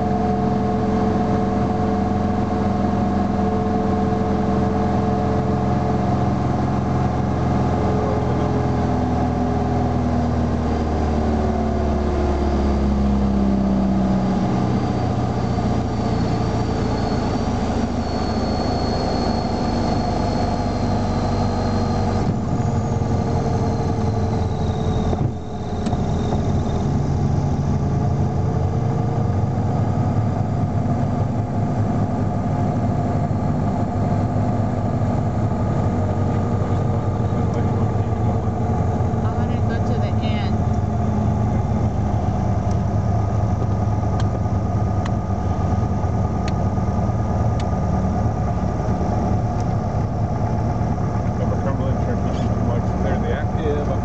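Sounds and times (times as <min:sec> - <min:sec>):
light aircraft engine and propeller drone: 0:00.0 - 0:54.0.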